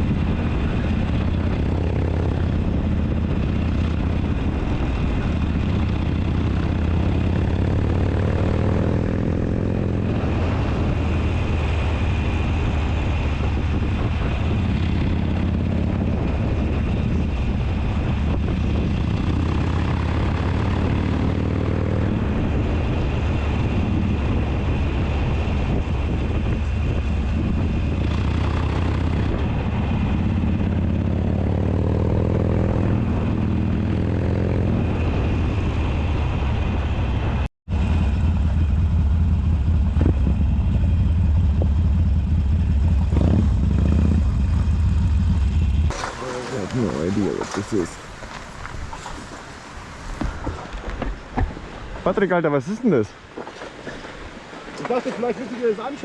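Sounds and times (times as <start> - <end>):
motorcycle engine running: 0.0 - 48.8.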